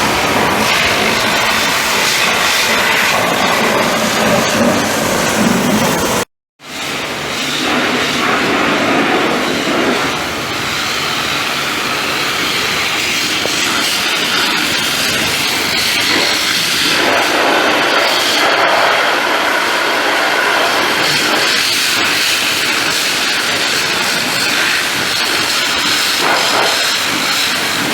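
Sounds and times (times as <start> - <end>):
pressure washer spray hissing: 0.0 - 27.9.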